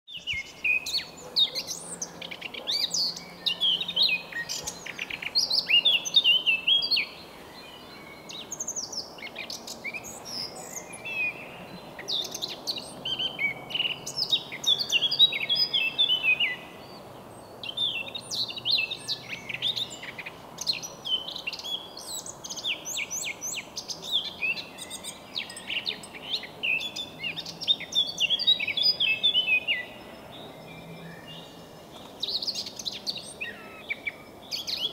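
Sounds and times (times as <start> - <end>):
bird warbling song: 0.1 - 34.9.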